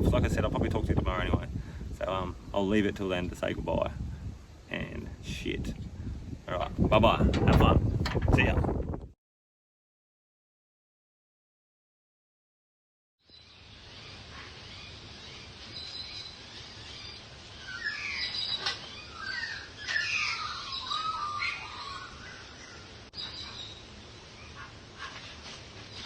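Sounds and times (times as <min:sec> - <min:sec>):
birds chirping: 0:00.0 - 0:08.9, 0:13.2 - 0:26.0
outdoor background noise: 0:00.0 - 0:09.1, 0:13.2 - 0:26.0.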